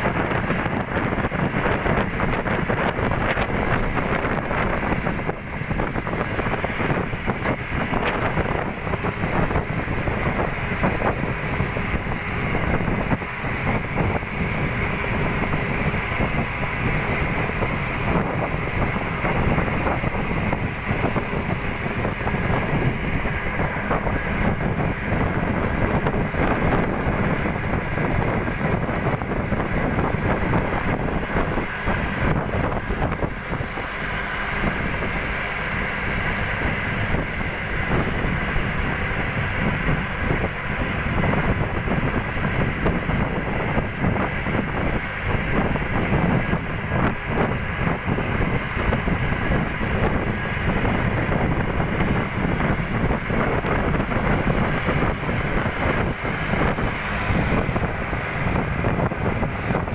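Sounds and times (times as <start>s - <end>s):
bus engine and road noise: 0.0s - 59.9s
wind buffeting microphone: 0.0s - 59.9s.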